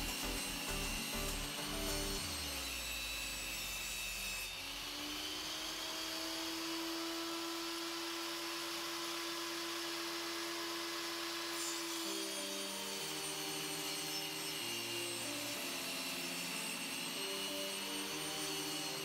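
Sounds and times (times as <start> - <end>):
table saw cutting: 0.0 - 19.0
table saw motor humming: 0.0 - 19.0.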